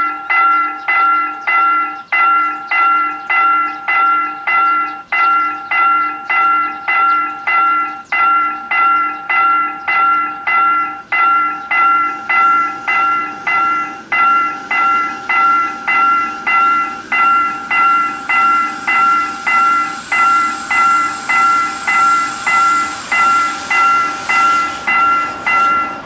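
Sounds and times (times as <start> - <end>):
level crossing warning bell: 0.0 - 26.0.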